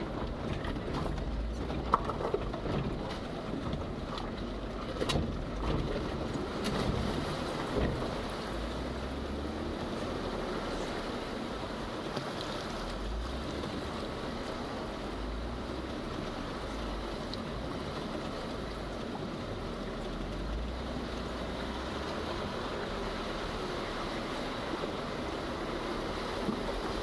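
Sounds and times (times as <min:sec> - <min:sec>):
car engine rumble: 0:00.0 - 0:27.0
rushing water: 0:00.0 - 0:27.0.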